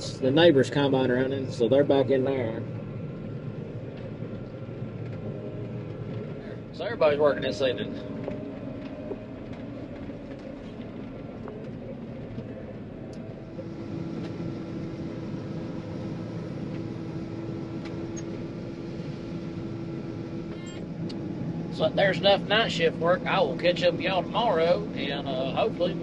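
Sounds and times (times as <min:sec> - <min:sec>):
distant engine running: 0:00.0 - 0:26.0
steady hum: 0:00.0 - 0:26.0.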